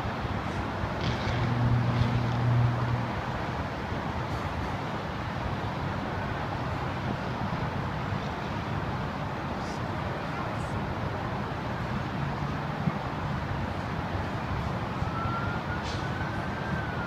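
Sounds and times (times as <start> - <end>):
distant highway traffic hum: 0.0 - 17.0.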